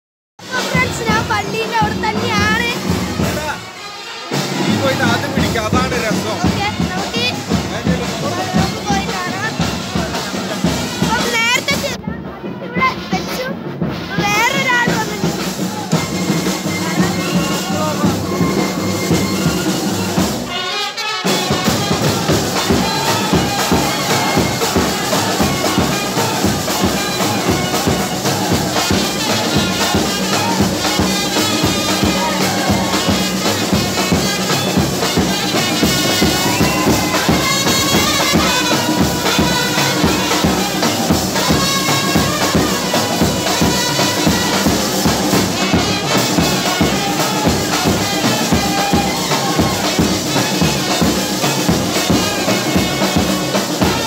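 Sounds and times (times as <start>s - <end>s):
bass drums and side drums: 0.4s - 3.7s, 4.3s - 20.6s, 21.2s - 54.0s
trumpets playing a tune: 0.4s - 54.0s.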